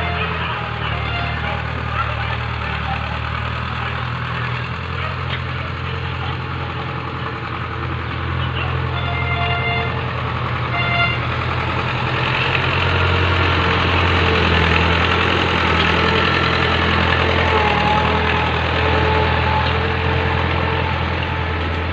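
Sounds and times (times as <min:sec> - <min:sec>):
tractor engine droning: 0:00.0 - 0:21.9.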